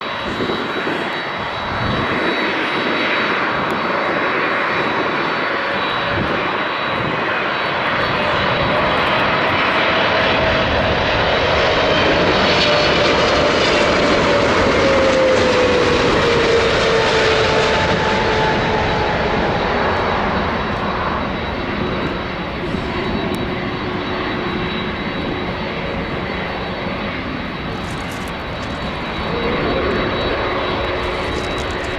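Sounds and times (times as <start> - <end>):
jet engines of landing airliner: 0.0 - 31.9.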